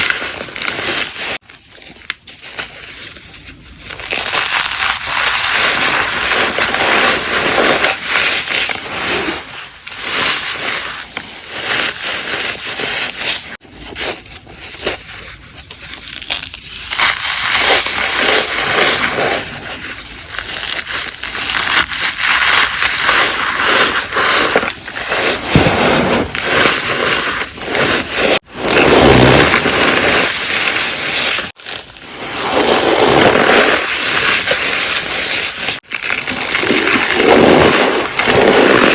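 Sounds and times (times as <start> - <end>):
chalk being crushed: 0.0 - 38.9.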